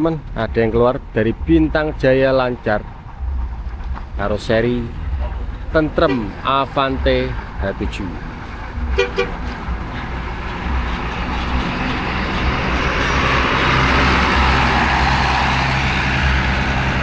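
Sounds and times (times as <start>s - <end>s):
bus diesel engine running: 0.0s - 17.0s
road noise: 0.0s - 17.0s.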